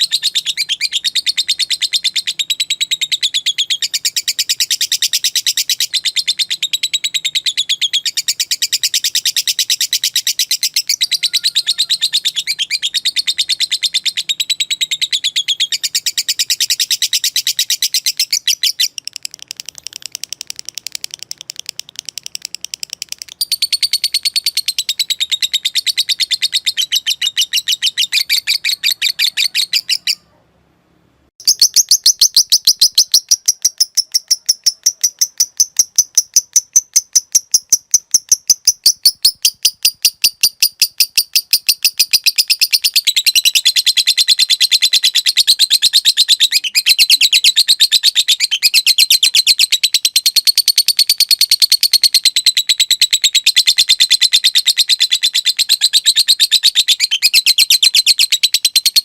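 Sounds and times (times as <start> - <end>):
bird chattering high chirps: 0.0 - 30.4, 31.4 - 59.0.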